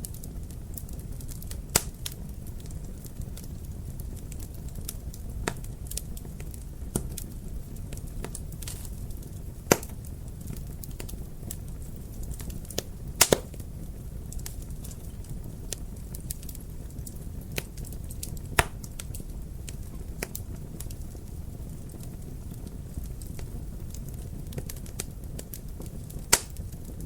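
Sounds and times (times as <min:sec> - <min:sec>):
sharp pops of fire: 0:00.0 - 0:27.0
wood fire crackling: 0:00.0 - 0:27.0.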